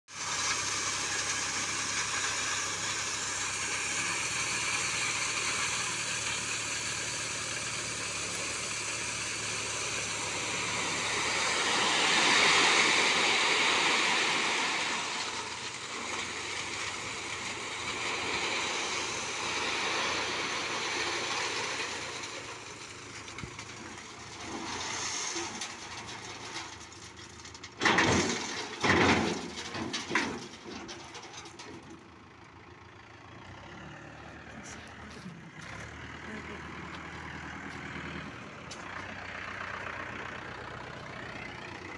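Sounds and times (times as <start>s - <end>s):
tractor diesel engine running: 0.1s - 41.9s.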